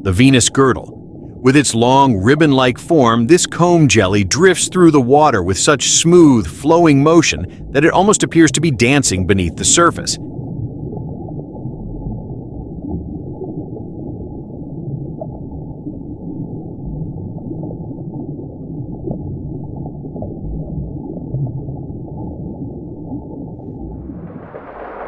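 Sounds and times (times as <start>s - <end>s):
deep underwater rumbling: 0.0s - 25.0s.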